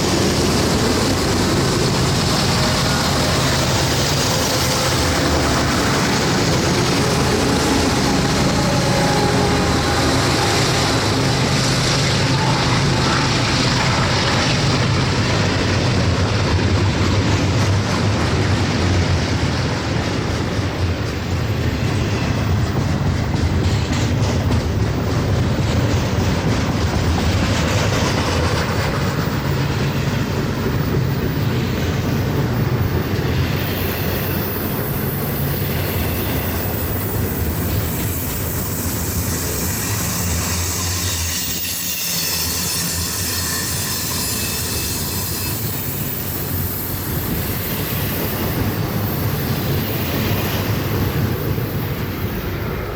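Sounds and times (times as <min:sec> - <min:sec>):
diesel locomotive drone: 0:00.0 - 0:52.9
steel wheels on rails: 0:00.0 - 0:52.9.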